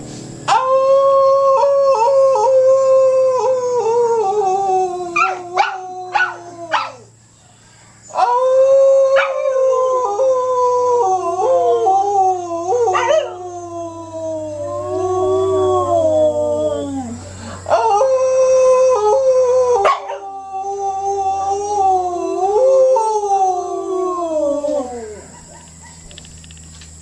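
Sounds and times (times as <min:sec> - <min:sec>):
dog howling: 0:00.5 - 0:07.2, 0:08.1 - 0:26.0
man howling into cupped hands: 0:00.5 - 0:07.2, 0:08.1 - 0:25.4.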